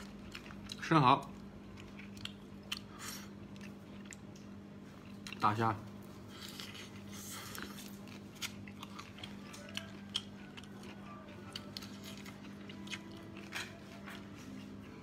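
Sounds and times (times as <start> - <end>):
man chewing: 0.0 - 15.0.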